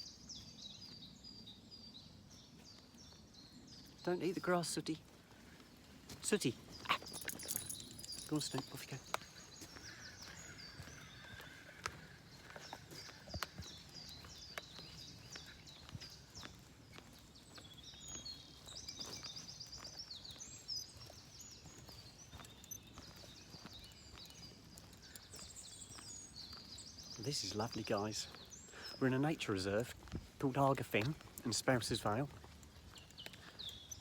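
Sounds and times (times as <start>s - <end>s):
birds singing trills: 0.0s - 34.0s
footsteps and clicks on path: 2.2s - 34.0s.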